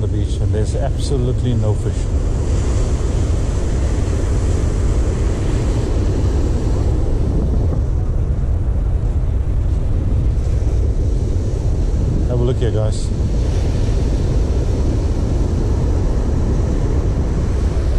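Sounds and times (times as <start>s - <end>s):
surf breaking on a sandy beach: 0.0s - 17.9s
wind buffeting the microphone: 0.0s - 17.9s.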